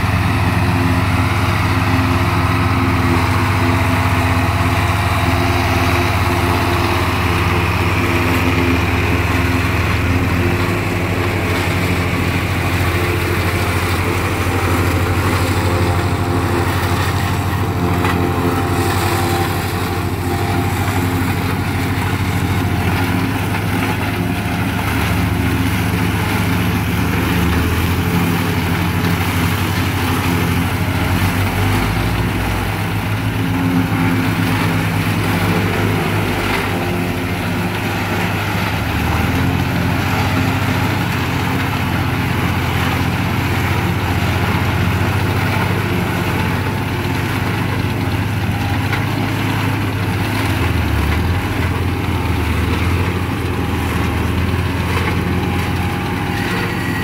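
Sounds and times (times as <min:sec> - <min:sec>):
forage chopper cutting and blowing: 0:00.0 - 0:57.0
tractor engines under load: 0:00.0 - 0:57.0.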